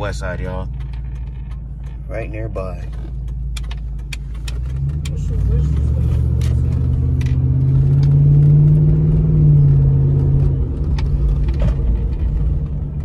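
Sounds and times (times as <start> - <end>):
truck exhaust under acceleration: 0.0 - 13.0.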